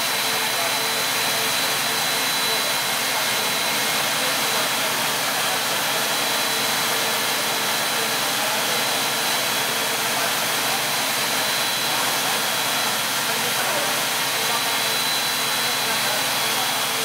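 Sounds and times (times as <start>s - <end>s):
machine hiss and hum: 0.0s - 17.0s.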